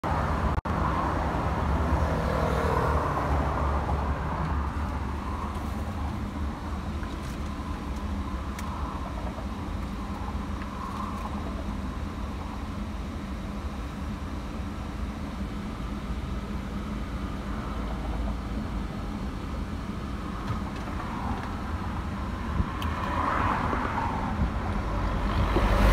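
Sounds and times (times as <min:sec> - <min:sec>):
car engine and road noise: 0:00.0 - 0:25.9.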